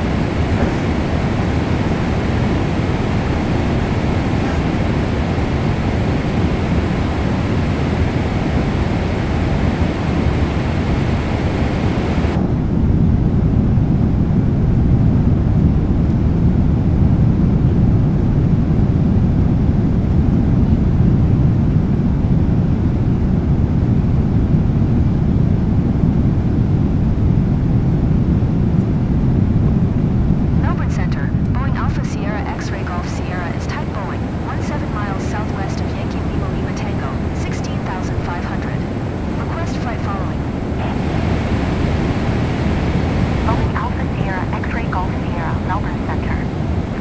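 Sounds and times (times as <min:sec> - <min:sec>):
airplane cabin engine rumble: 0:00.0 - 0:47.0.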